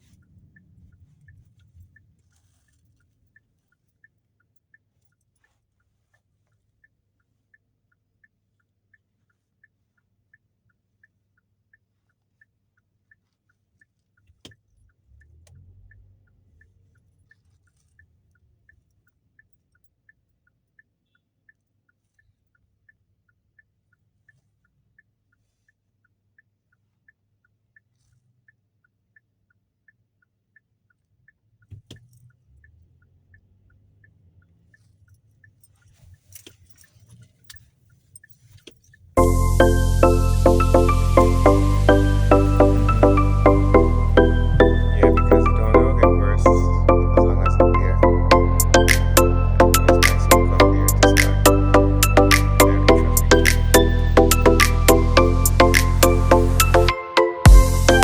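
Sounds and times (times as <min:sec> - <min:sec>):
turn signal ticking: 0:00.0 - 0:58.0.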